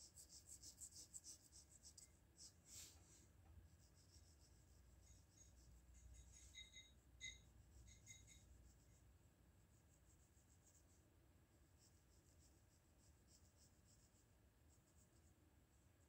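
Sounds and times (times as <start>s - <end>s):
pencil scratching on paper: 0.0s - 3.0s, 3.7s - 11.0s, 11.6s - 15.3s.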